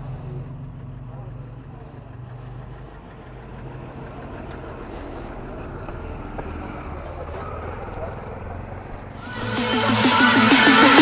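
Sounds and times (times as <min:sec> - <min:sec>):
road and wind noise: 0:00.0 - 0:09.2.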